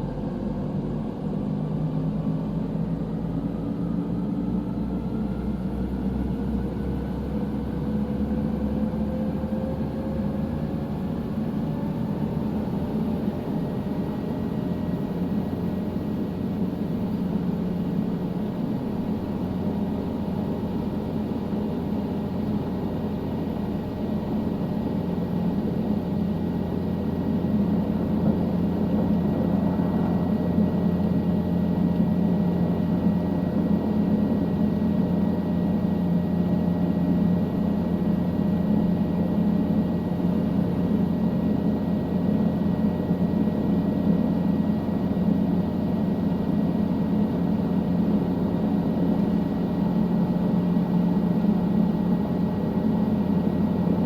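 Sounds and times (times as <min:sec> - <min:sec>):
helicopter engine and rotors drone: 0:00.0 - 0:54.0.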